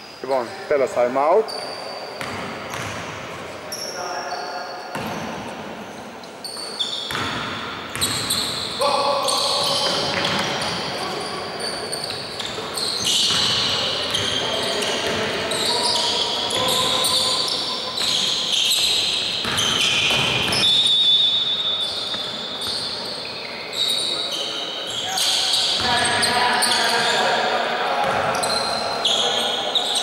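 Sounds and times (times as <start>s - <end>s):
sneakers squeaking: 0.0s - 30.0s.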